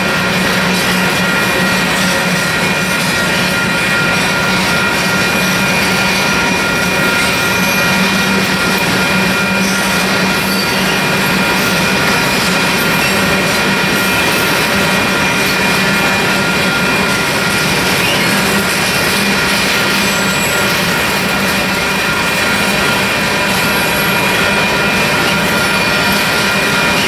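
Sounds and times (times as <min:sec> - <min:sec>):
high wheel squeal: 0:00.0 - 0:27.0
train wheels rumbling on rails: 0:00.0 - 0:27.0.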